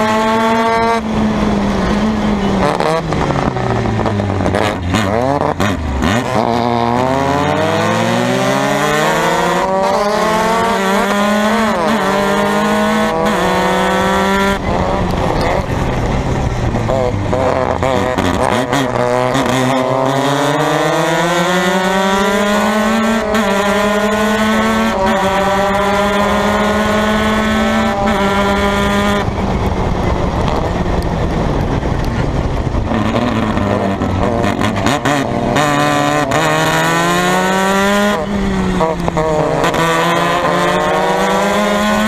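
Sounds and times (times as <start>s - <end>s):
race car engine: 0.0s - 42.0s.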